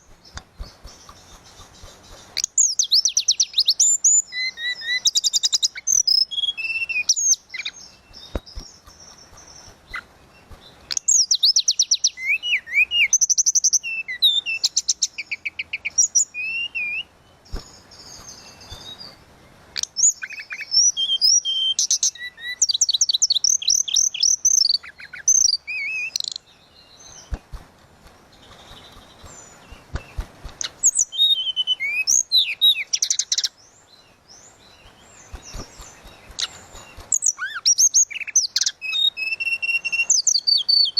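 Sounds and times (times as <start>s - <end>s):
bird singing whistles and trills: 0.0s - 19.2s, 19.8s - 27.4s, 28.4s - 40.9s.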